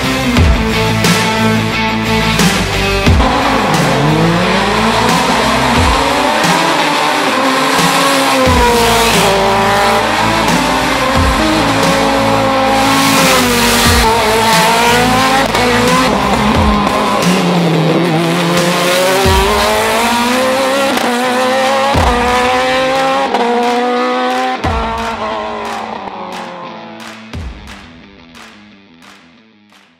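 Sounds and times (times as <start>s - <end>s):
race car engine revving: 0.0s - 27.3s
background music: 0.0s - 29.9s.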